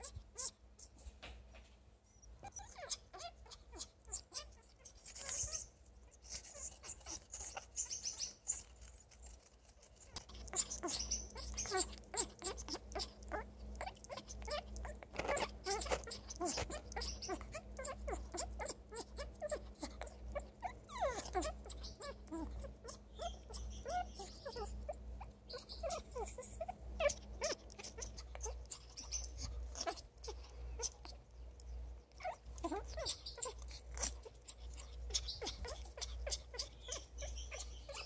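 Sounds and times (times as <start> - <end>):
parrot clicking and squeaking: 0.0 - 1.4, 2.2 - 38.0.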